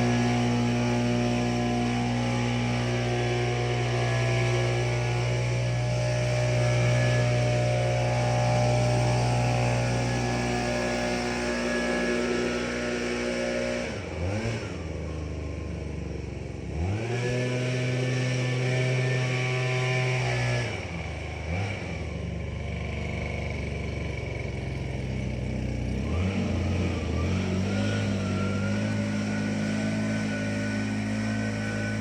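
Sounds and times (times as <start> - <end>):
tractor engine revving: 0.0 - 32.0.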